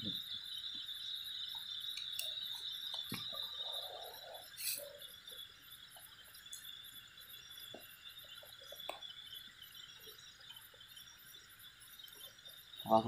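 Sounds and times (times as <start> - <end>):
crickets chirping: 0.0 - 13.0
high pulsing insect trill: 0.0 - 13.0.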